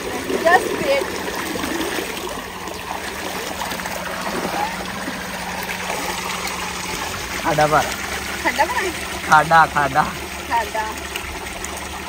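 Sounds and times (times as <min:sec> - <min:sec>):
water gushing from a pipe: 0:00.0 - 0:12.0
water splashing into a tank: 0:00.0 - 0:12.0.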